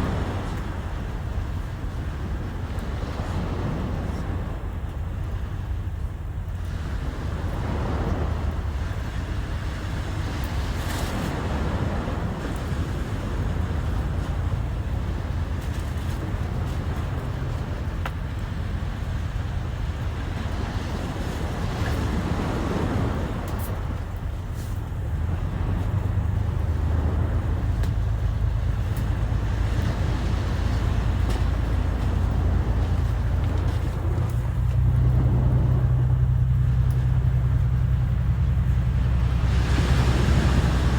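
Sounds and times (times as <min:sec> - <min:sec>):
sea waves washing in: 0:00.0 - 0:40.9
wind on microphone: 0:06.7 - 0:40.9.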